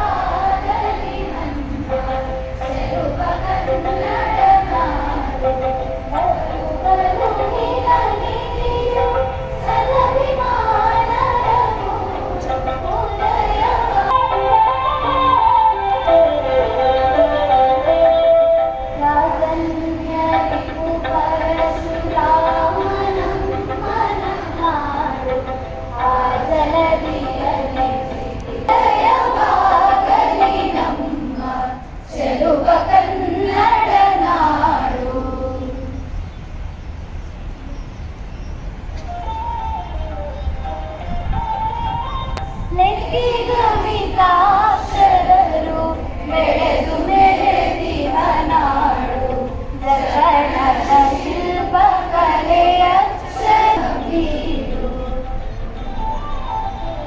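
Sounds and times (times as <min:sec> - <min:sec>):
women singing in unison: 0:00.0 - 0:16.4, 0:19.0 - 0:36.2, 0:42.7 - 0:55.9.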